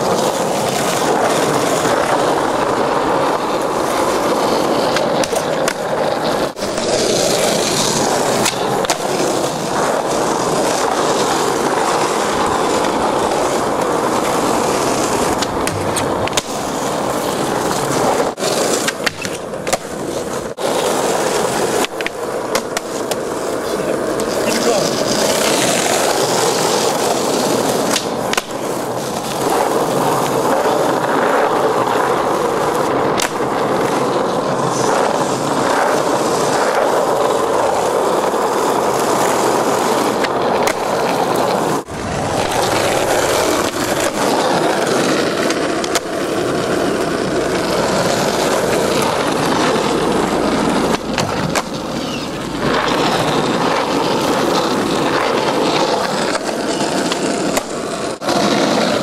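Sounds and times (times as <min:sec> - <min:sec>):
skateboard clacking on pavement: 0:00.0 - 0:59.0
skateboard wheels rolling on asphalt: 0:00.0 - 0:59.0.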